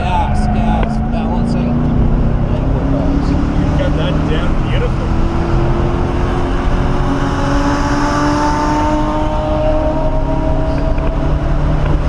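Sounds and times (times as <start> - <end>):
car engine accelerating: 0.0 - 12.0
road and wind noise: 0.0 - 12.0.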